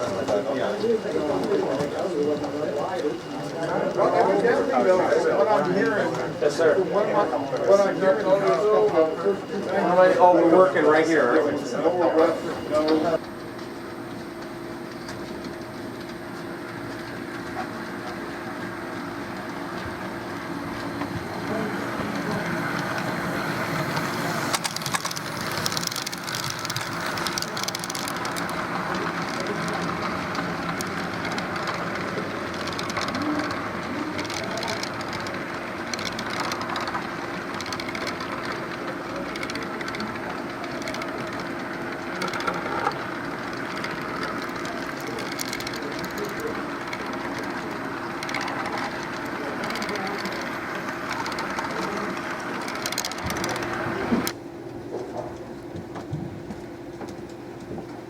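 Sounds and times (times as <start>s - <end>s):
wheels clicking on rails: 0.0s - 54.4s
model train humming: 0.0s - 54.5s.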